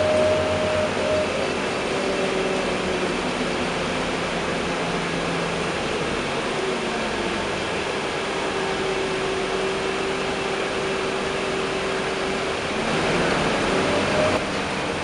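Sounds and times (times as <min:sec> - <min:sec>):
bus cabin rumble and hiss: 0:00.0 - 0:15.0
steady whine: 0:00.0 - 0:15.0.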